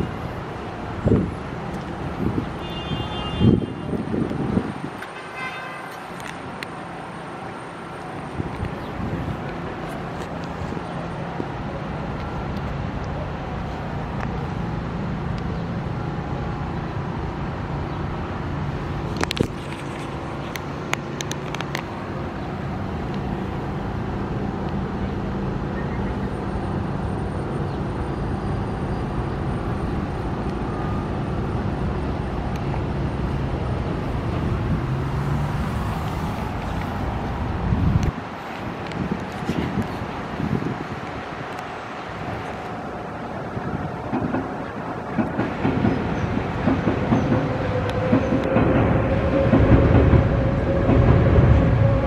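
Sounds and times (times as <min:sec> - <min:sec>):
city road traffic rumble: 0:00.0 - 0:52.0.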